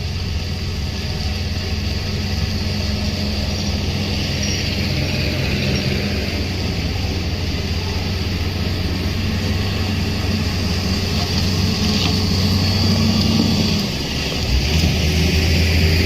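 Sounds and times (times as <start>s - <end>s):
low engine-like drone: 0.0s - 16.0s.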